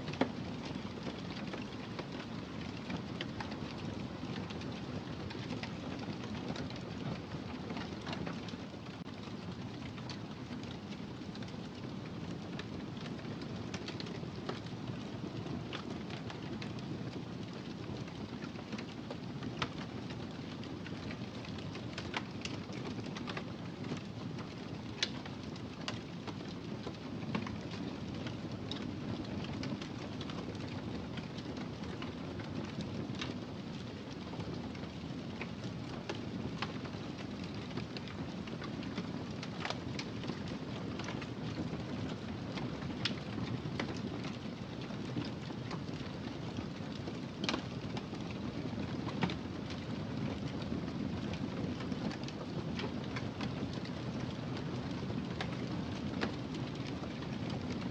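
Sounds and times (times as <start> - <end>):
wood fire crackling: 0.1 - 57.9.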